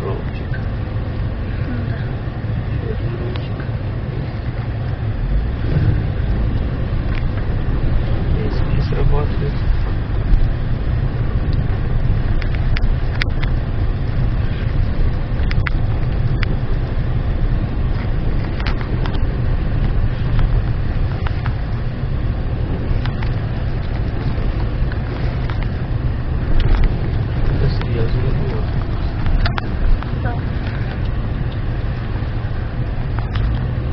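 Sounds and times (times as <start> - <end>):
engine rumbling under load: 0.0 - 33.9
suspension knocks and clicks: 4.7 - 33.9.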